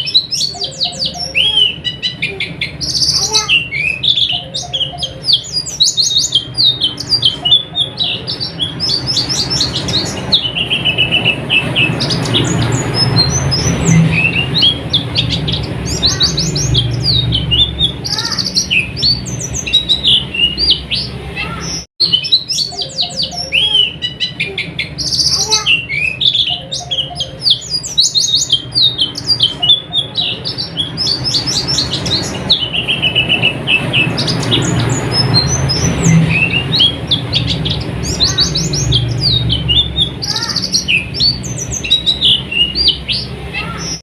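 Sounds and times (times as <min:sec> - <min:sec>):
songbirds twittering: 0:00.0 - 0:44.0.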